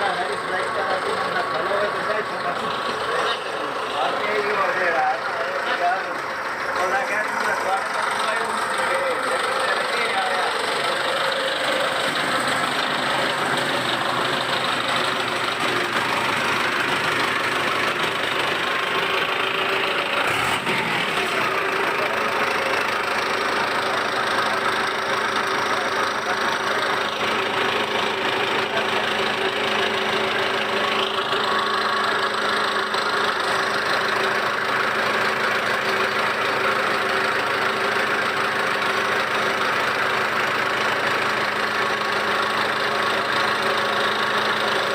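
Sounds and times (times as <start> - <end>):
tractor diesel engine idling: 0.0 - 44.9.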